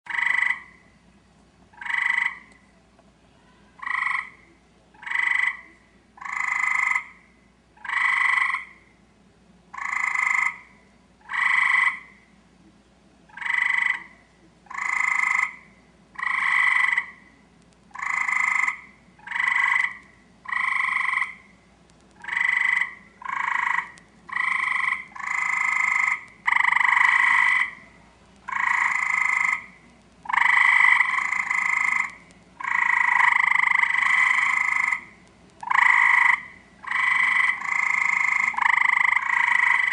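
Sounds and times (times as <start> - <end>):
tree frog trilling: 0.1 - 1.0, 1.7 - 2.6, 3.7 - 9.0, 9.7 - 12.3, 13.3 - 39.9.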